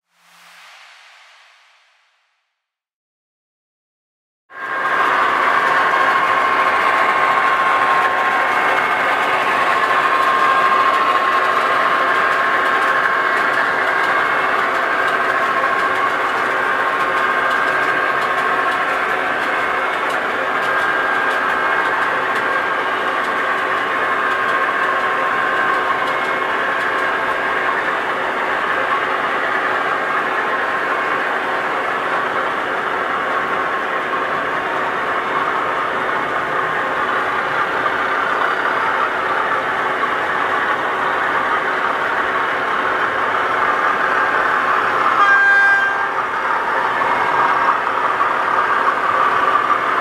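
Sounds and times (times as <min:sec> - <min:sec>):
model train diesel engine sound: 0:04.5 - 0:50.0.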